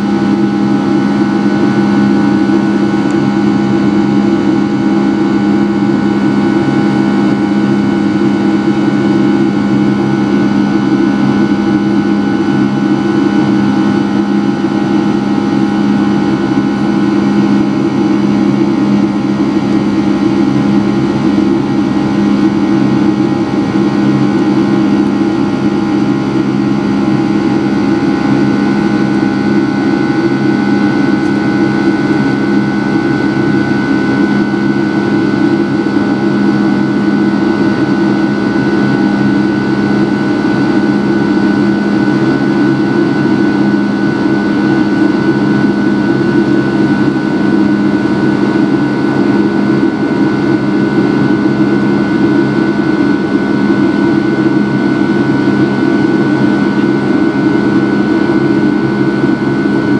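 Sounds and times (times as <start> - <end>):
jet engine drone in cabin: 0.0 - 59.9
jet engine whine: 0.0 - 59.9.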